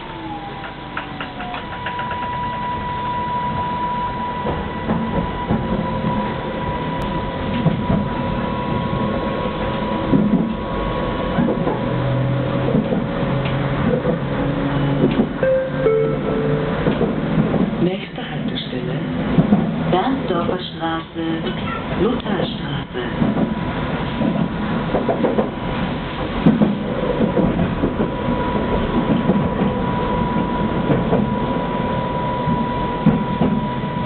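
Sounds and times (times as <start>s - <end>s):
tram traction drive whining: 0.0s - 34.0s
wheels rumbling on rail: 0.0s - 34.0s.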